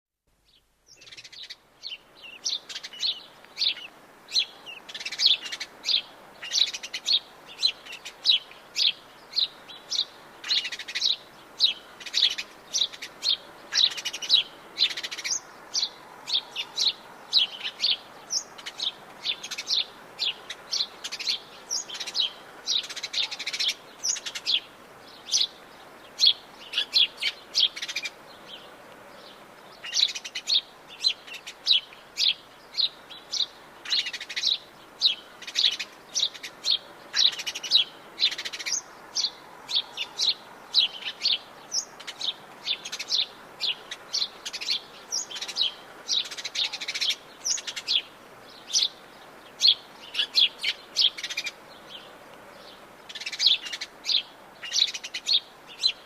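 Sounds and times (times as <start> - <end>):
faint background hiss: 0.2 - 56.0
forest birds chirping: 0.3 - 56.0.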